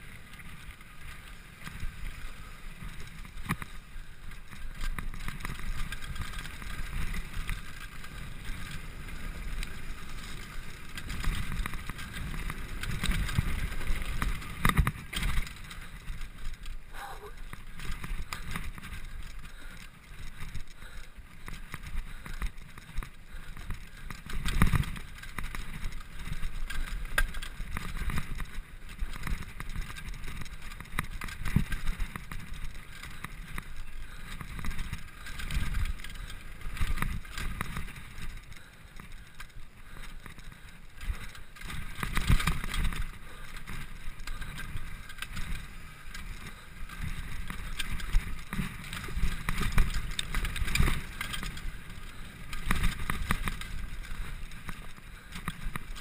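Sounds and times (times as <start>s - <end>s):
bike jolting over bumps: 0.0s - 56.0s
bike rattling: 0.0s - 56.0s
bike tyres on dirt: 0.0s - 56.0s.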